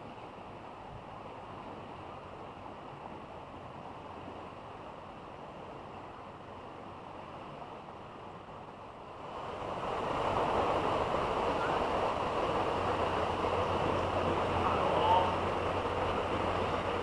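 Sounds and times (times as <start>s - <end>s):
rushing stream and waterfall: 0.0s - 17.0s.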